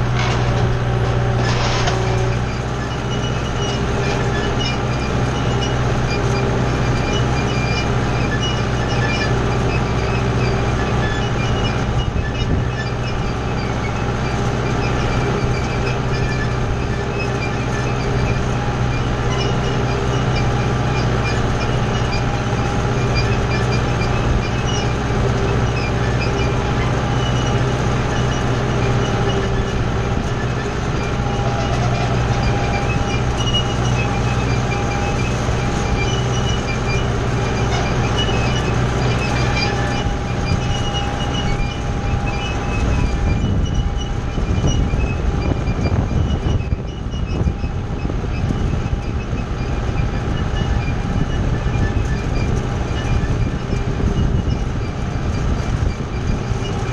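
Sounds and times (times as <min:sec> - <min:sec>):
high mechanical whines: 0:00.0 - 0:56.9
tractor diesel engine under load: 0:00.0 - 0:56.9.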